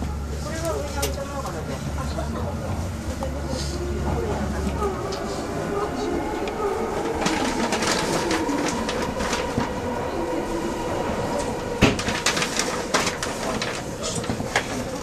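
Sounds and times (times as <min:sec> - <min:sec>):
train running noise in tunnel: 0:00.0 - 0:15.0.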